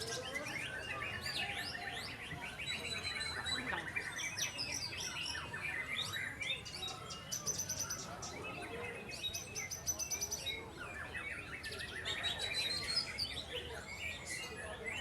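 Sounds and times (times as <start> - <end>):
songbirds whistling and trilling: 0.0 - 15.0.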